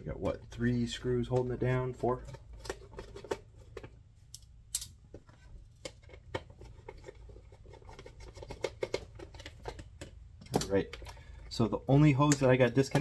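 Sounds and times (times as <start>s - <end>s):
plastic and metal parts handled: 0.1s - 13.0s.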